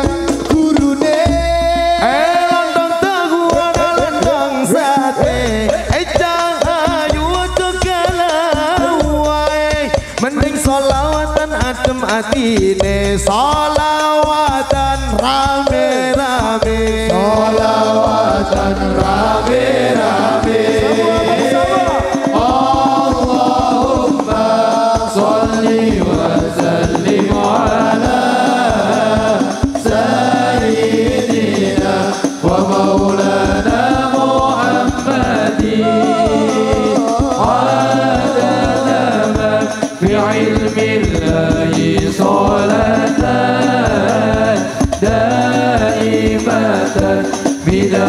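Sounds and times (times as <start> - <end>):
man singing into a microphone: 0.0 - 48.0
steady percussion beat: 0.0 - 48.0.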